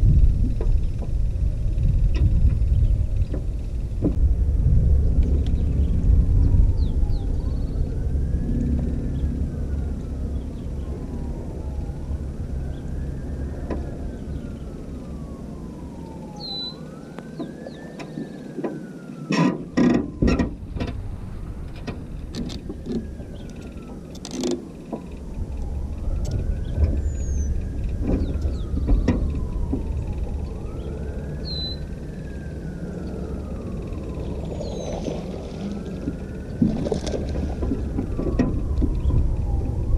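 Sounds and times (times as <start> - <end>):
low rumble: 0.0 - 39.9
rising and falling whine: 0.0 - 39.9.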